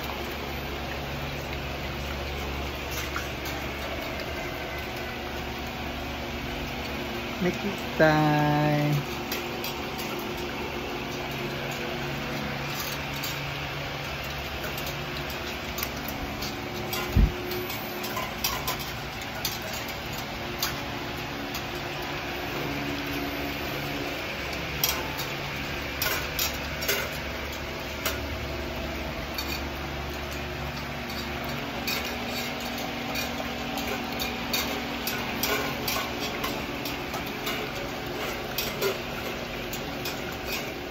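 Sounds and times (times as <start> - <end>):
puppies lapping milk: 0.0 - 8.0, 9.0 - 40.9
steady hum: 0.0 - 40.9.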